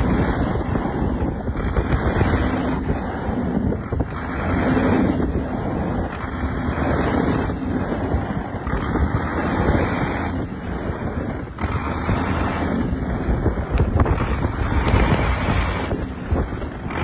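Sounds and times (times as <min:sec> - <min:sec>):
truck diesel engine running: 0:00.0 - 0:17.0
wind buffeting microphone: 0:00.0 - 0:17.0.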